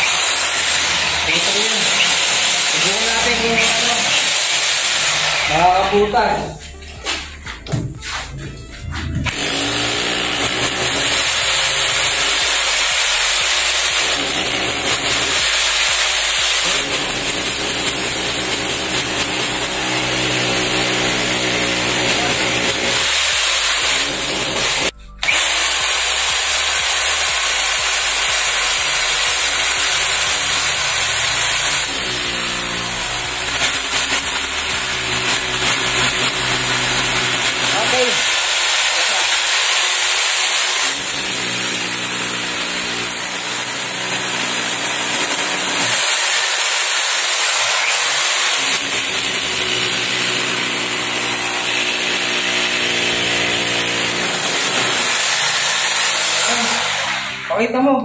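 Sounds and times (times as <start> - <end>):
rotary hammer drilling concrete: 0.0 - 6.6, 9.1 - 57.9.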